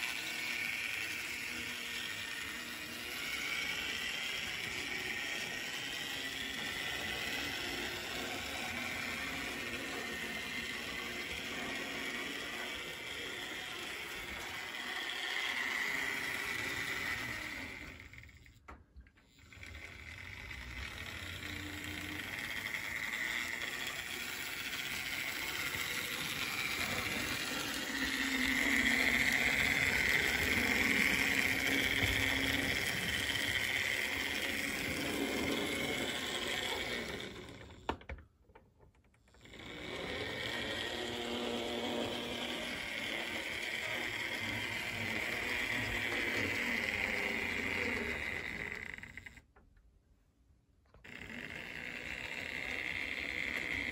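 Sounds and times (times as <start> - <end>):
model locomotive whirring: 0.0 - 49.6, 50.9 - 53.9.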